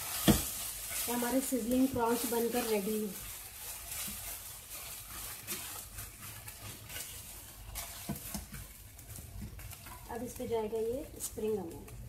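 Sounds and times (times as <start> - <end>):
spatula scraping wok: 0.0 - 11.5
hot pan hissing: 0.0 - 12.0.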